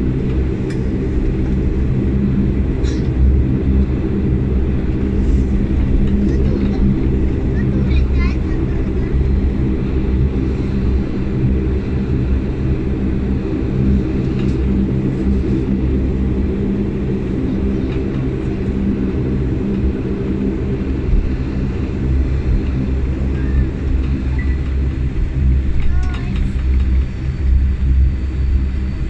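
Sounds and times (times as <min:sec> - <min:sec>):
turboprop engines droning in cabin: 0:00.0 - 0:29.0.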